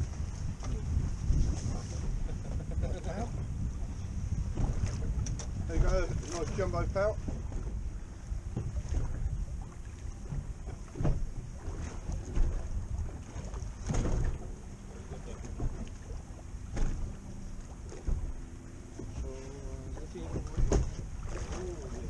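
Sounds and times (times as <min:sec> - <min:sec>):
boat hull bumps: 0:00.0 - 0:22.0
water lapping against boat hull: 0:00.0 - 0:22.0
wind on microphone: 0:00.0 - 0:22.0.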